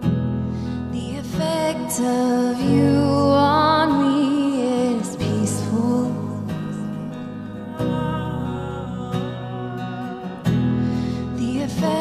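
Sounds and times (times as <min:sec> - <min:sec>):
woman singing with vibrato: 0:00.9 - 0:12.0.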